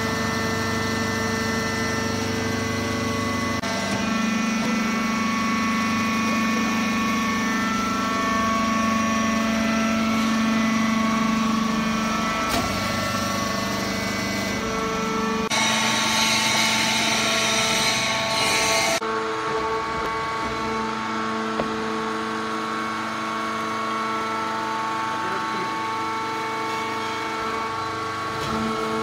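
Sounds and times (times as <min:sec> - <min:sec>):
hydraulic press motor humming: 0:00.0 - 0:29.0.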